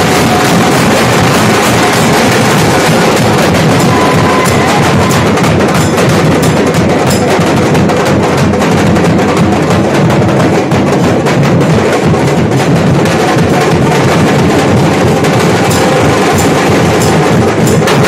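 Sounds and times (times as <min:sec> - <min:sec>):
barrel drums beating rhythm: 0:00.0 - 0:18.0.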